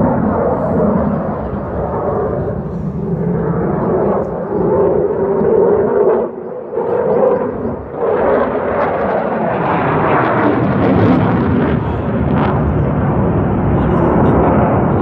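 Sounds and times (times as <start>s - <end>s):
jet aircraft flying overhead: 0.0s - 15.0s.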